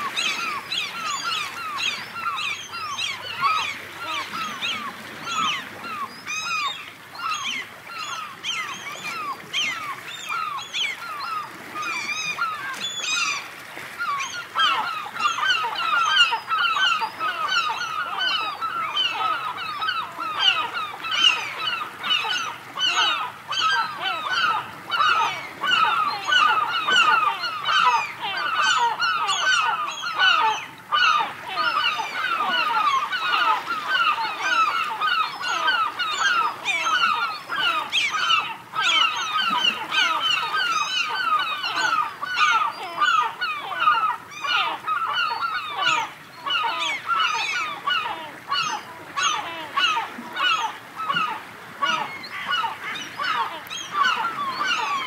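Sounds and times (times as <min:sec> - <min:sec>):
flock of birds calling: 0:00.0 - 0:55.0.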